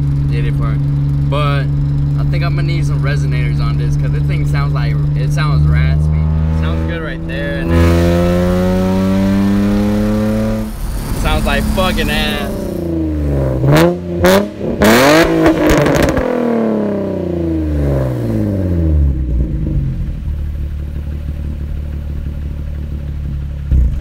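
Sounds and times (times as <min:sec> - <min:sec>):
car engine revving and idling: 0:00.0 - 0:24.0.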